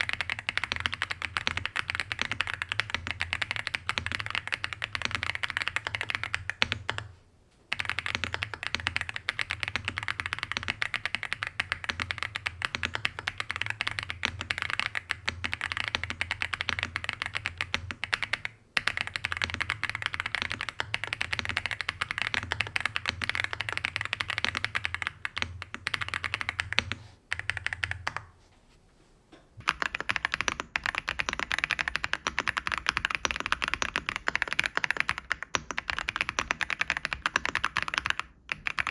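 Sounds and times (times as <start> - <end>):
fast mechanical keyboard typing: 0.0 - 7.1, 7.7 - 28.3, 29.6 - 38.9.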